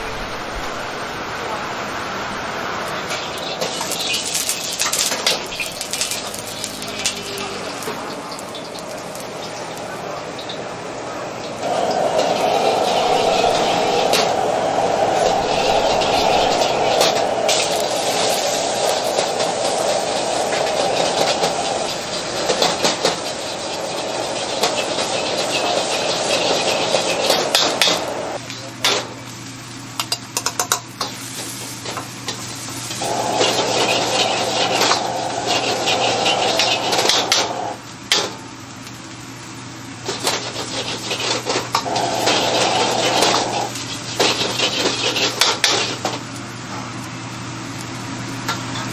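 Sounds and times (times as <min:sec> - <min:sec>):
rice frying in a wok: 0:00.0 - 0:48.9.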